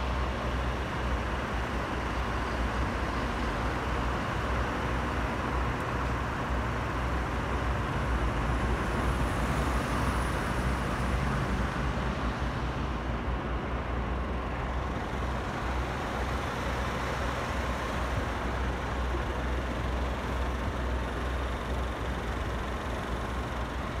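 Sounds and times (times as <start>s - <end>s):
road noise hiss: 0.0s - 24.0s.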